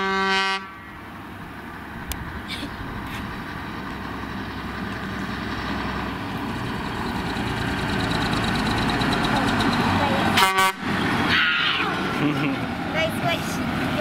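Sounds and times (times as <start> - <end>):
truck diesel engine approaching: 0.0 - 14.0.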